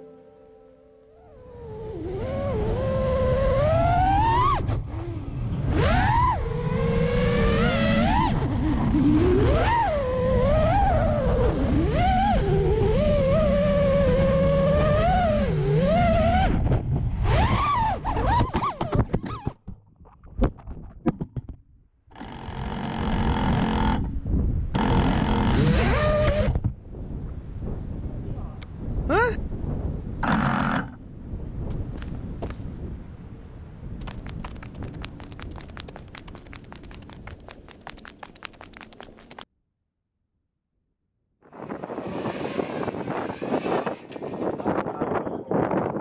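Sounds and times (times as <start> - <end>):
wind rumble on microphone: 1.3 - 19.5, 22.5 - 39.4, 41.5 - 46.0.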